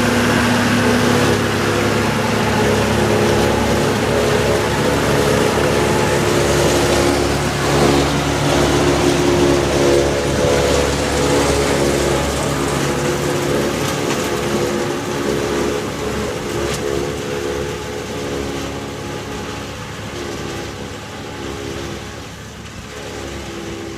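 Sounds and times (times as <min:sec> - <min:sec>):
tractor and harvester droning: 0:00.0 - 0:23.9.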